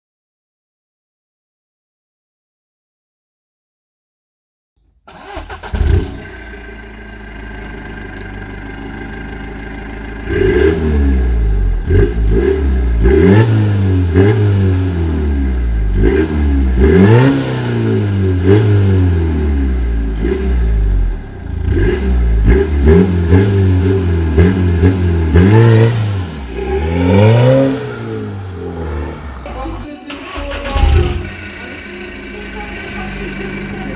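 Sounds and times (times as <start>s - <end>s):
diesel car engine revving: 5.1s - 33.9s.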